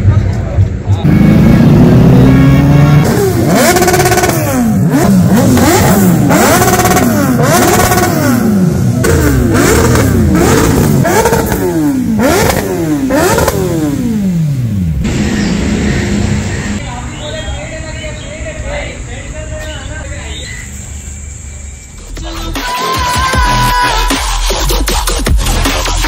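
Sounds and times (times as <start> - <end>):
motorbike engines revving: 0.0 - 26.0.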